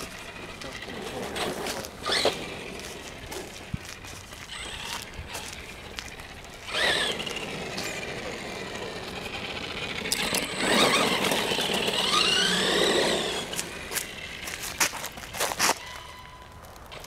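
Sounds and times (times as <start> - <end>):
electric toy truck motor whining: 0.0 - 17.0.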